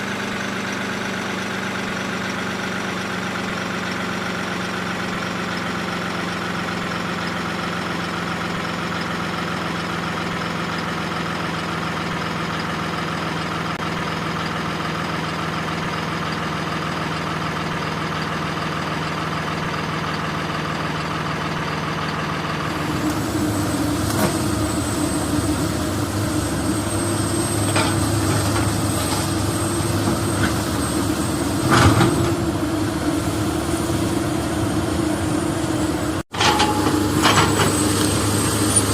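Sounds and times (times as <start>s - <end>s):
engine with high whine: 0.0s - 38.9s
heavy vehicle engine idling: 0.0s - 38.9s.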